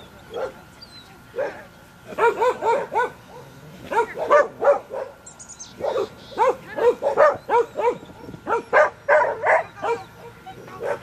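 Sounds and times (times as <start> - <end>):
dog barking rapidly: 1.4 - 5.2, 5.8 - 11.0.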